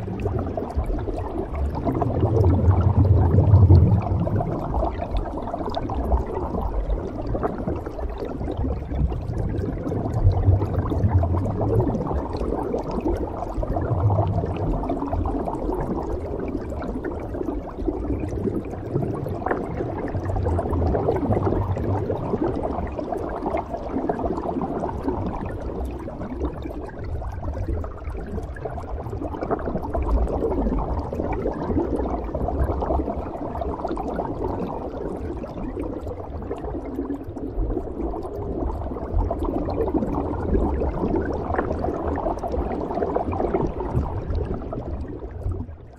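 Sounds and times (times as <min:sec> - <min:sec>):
bubbles: 0:00.0 - 0:45.9.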